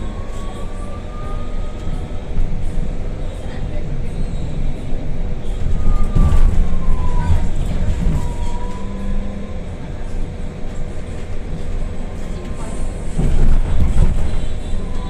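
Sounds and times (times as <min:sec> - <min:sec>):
bus road rumble: 0:00.0 - 0:15.0.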